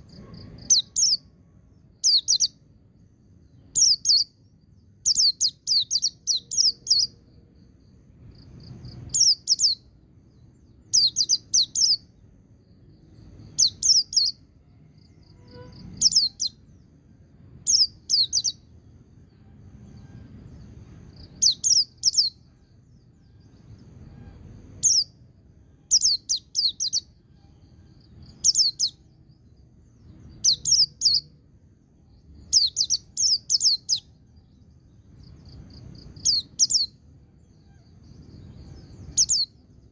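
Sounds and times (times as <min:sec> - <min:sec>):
bird song with rapid high notes: 0:00.0 - 0:39.9
faint low rumble: 0:00.0 - 0:39.9.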